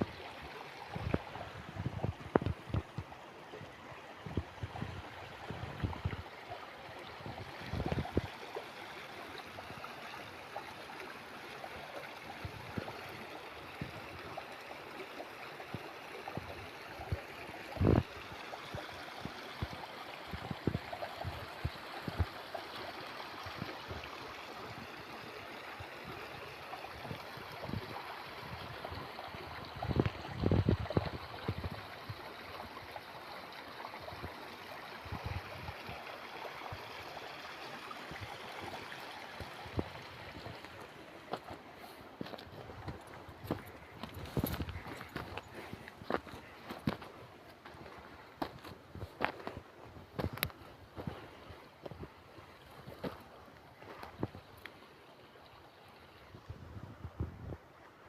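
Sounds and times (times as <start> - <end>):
stream gurgling: 0.0 - 58.0.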